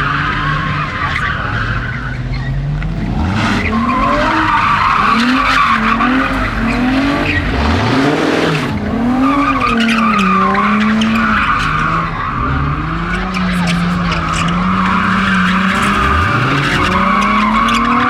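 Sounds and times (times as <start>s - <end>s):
car engine revving: 0.0s - 18.0s
tyres screeching: 0.0s - 18.0s.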